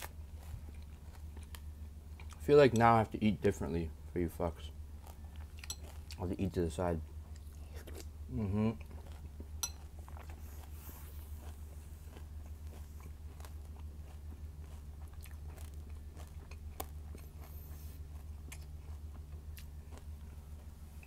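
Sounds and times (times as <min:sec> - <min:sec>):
person chewing crunchy cereal: 0:00.0 - 0:02.9, 0:05.0 - 0:06.6, 0:07.2 - 0:21.0
steady low hum: 0:00.0 - 0:21.0.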